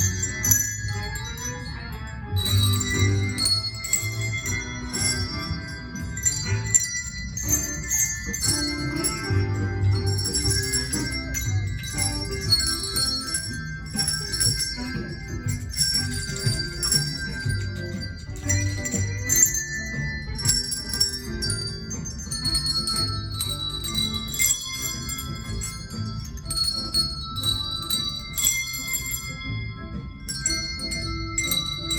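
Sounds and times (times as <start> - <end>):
handbell choir ringing: 0.0 - 31.9.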